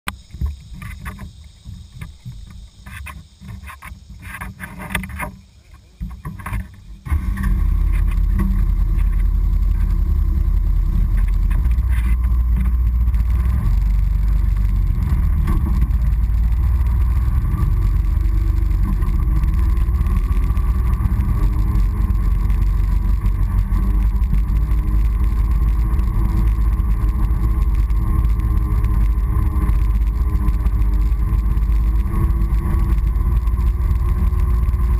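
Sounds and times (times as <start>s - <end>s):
quad bike engine rumble: 0.1s - 34.9s.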